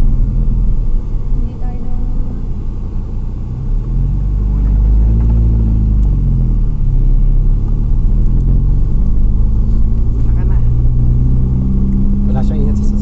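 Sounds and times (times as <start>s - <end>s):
car engine running: 0.0s - 13.0s
low rumble: 0.0s - 13.0s.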